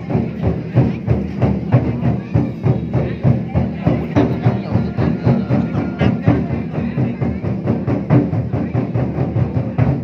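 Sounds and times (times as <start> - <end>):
big drum beating fast: 0.0 - 10.0
percussion struck: 0.0 - 10.0.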